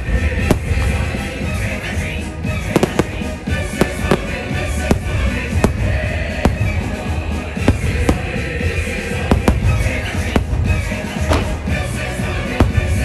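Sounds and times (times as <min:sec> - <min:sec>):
fireworks bursting: 0:00.0 - 0:13.0
loud show music with heavy bass: 0:00.0 - 0:13.0.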